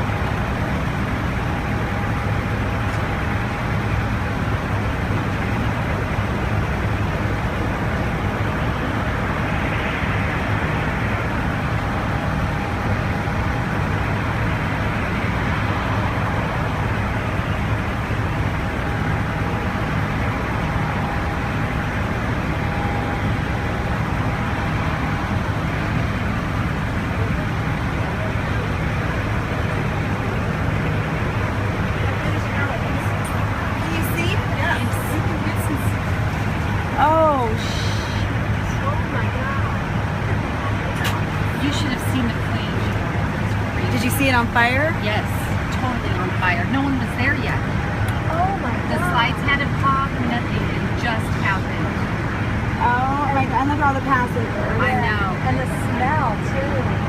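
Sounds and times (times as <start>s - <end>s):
airliner cabin engine rumble: 0.0s - 57.0s
faint steady whine: 0.0s - 57.0s.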